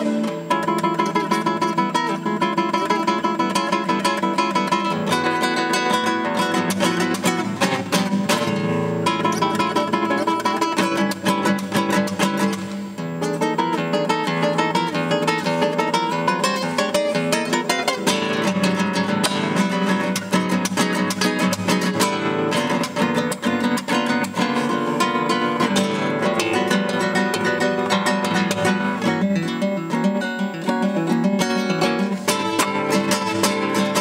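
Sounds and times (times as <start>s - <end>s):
classical guitar fingerstyle: 0.0s - 34.0s.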